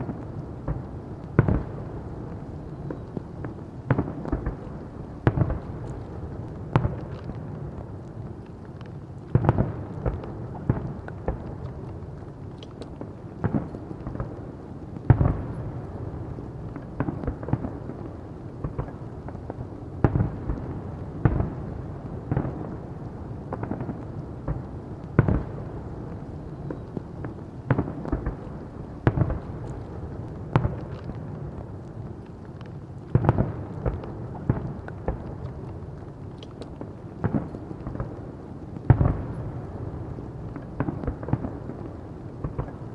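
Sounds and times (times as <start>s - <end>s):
fireworks exploding: 0.0s - 8.7s, 9.3s - 42.9s
continuous low rumble: 0.0s - 42.9s.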